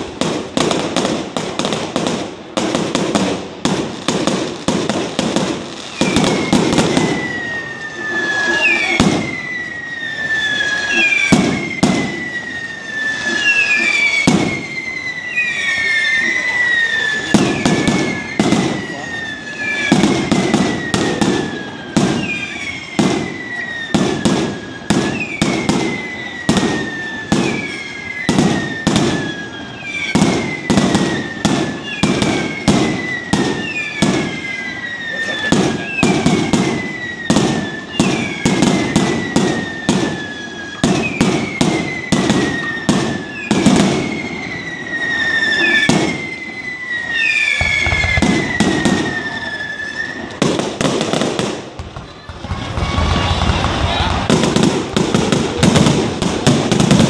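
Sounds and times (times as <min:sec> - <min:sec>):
fireworks bangs and crackles: 0:00.0 - 0:57.0
firework whistle falling in pitch: 0:04.5 - 0:57.0.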